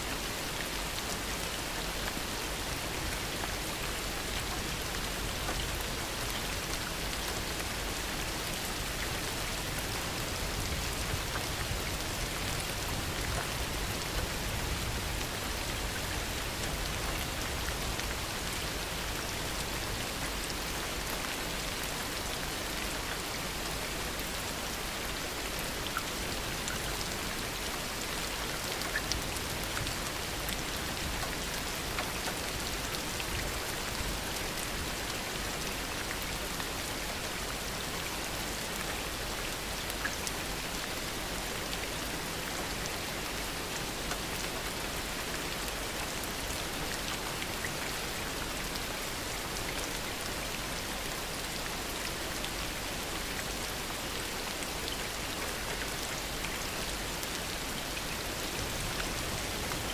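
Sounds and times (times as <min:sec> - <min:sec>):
heavy rain falling: 0:00.1 - 0:59.9
raindrops ticking on a surface: 0:00.3 - 0:50.4.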